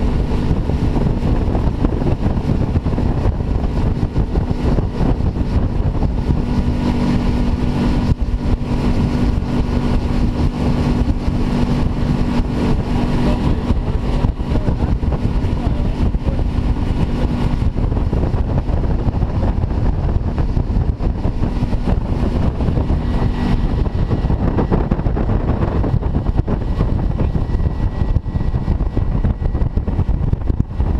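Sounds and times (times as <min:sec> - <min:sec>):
boat motor running: 0:00.0 - 0:30.9
water rushing: 0:00.0 - 0:30.9
wind rushing: 0:00.0 - 0:30.9.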